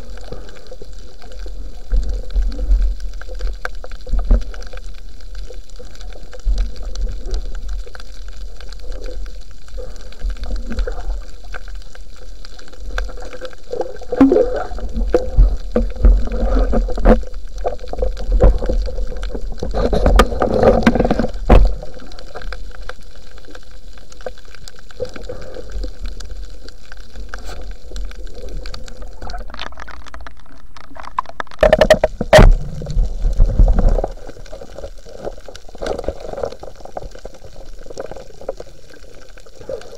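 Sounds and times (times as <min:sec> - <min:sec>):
water gurgling bursts: 0:00.0 - 0:22.9, 0:24.9 - 0:39.9
low underwater rumble: 0:00.0 - 0:23.6, 0:25.0 - 0:39.9
sharp clicks underwater: 0:02.0 - 0:23.6, 0:24.2 - 0:39.9.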